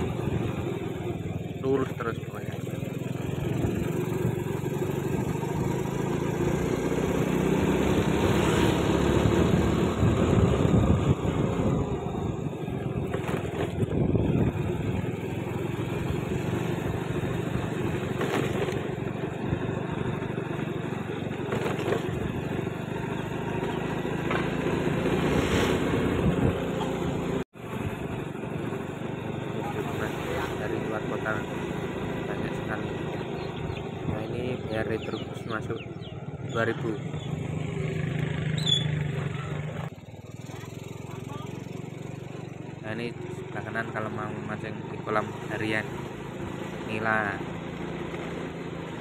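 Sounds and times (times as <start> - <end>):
small motorcycle engine running: 0.0 - 49.0
wind and road noise: 0.0 - 49.0.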